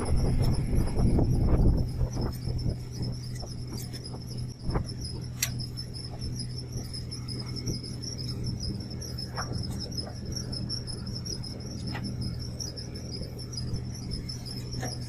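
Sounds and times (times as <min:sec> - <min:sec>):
insect trilling in fast pulses: 0:00.0 - 0:15.0
low steady hum: 0:00.0 - 0:15.0.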